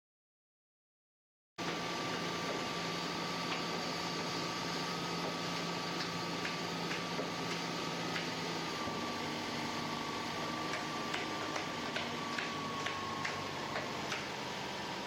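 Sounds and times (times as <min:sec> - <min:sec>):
mechanical hum with whine: 0:01.6 - 0:15.0.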